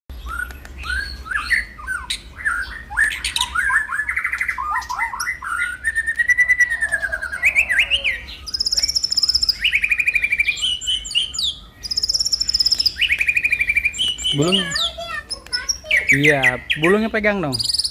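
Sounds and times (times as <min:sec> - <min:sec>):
songbird singing: 0:00.1 - 0:17.9.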